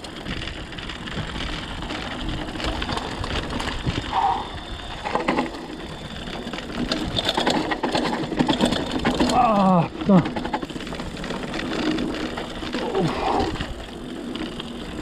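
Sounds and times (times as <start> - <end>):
bike rattling: 0.0 - 15.0.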